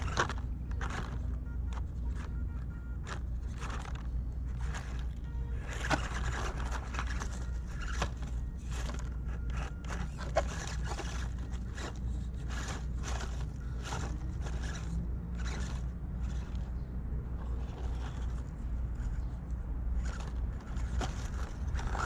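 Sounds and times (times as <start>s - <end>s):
tyres scraping on stone and leaves: 0.0s - 2.4s, 3.0s - 22.0s
steady low hum: 0.0s - 22.0s.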